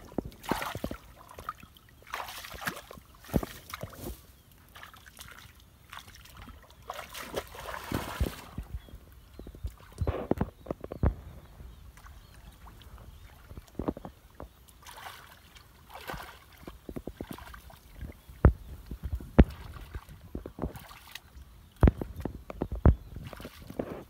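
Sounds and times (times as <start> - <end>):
muddy water splashing: 0.0 - 24.0.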